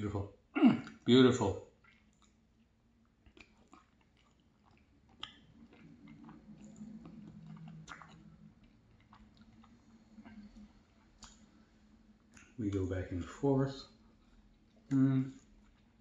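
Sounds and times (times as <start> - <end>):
chewing and mouth sounds: 0.8 - 16.0.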